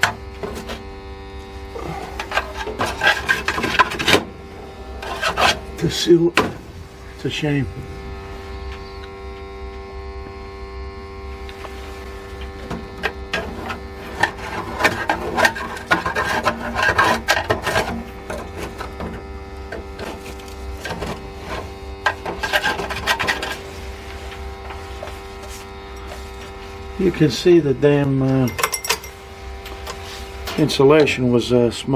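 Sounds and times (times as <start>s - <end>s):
steady hum: 0.0s - 31.9s.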